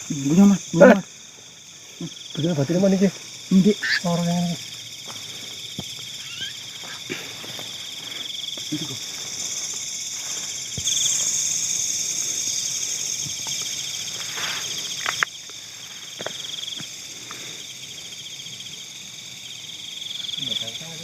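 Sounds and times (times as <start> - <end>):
hissing insect chorus: 0.0 - 21.0
insects trilling: 0.0 - 21.0.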